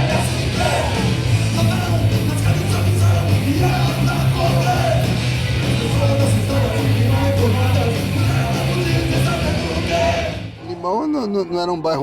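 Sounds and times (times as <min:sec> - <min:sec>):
person singing: 0:00.0 - 0:10.4
heavy bass line: 0:00.0 - 0:10.5
distorted electric guitar: 0:00.0 - 0:10.6.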